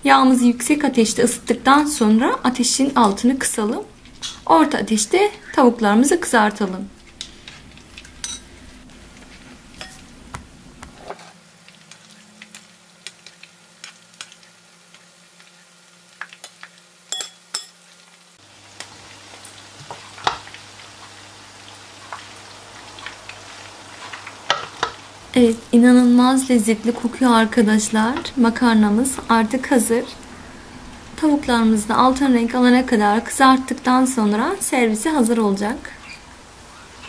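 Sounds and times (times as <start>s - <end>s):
chicken frying in oil: 0.2s - 37.0s.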